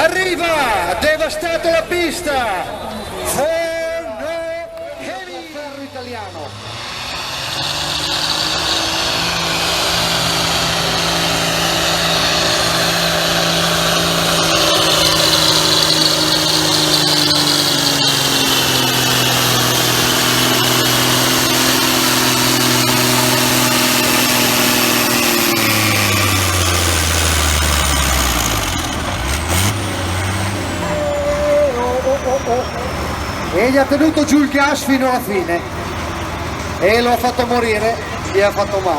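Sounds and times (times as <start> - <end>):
tractor engine at full throttle: 4.6 - 38.9.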